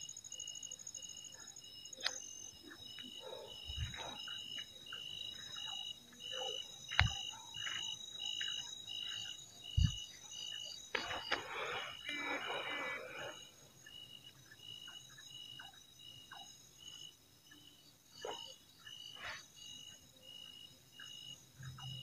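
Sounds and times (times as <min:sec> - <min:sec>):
cricket chirping: 0:00.0 - 0:22.0
insect trills: 0:00.0 - 0:22.0.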